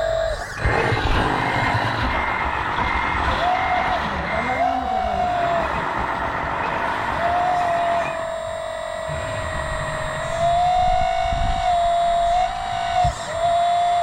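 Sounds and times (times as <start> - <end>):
low rumbling: 0.0 - 13.6
model machine high-pitched whine: 0.0 - 14.0.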